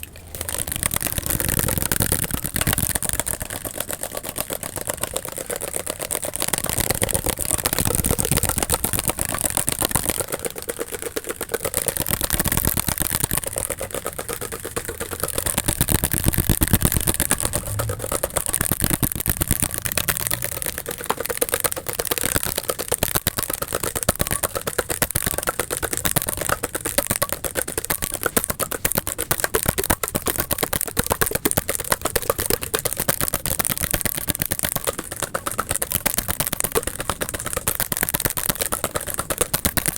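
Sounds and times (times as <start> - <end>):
fast tapping and clicking: 0.0 - 39.9.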